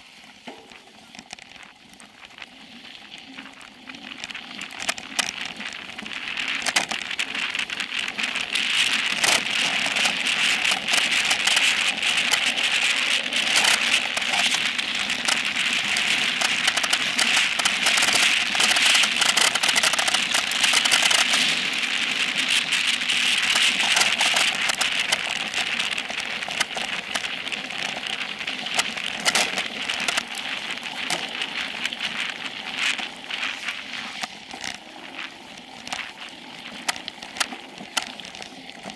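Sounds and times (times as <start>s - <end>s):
bike tyres rolling on dirt: 0.0s - 38.9s
bike clicks and rattles: 0.2s - 38.9s.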